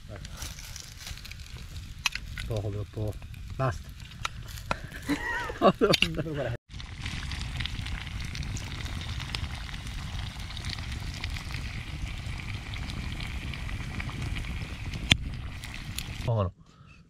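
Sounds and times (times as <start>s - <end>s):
campfire crackling: 0.0s - 16.3s.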